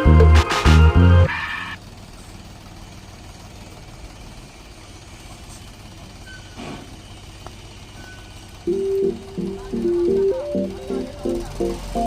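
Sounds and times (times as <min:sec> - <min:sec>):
low engine hum: 0:01.0 - 0:12.0.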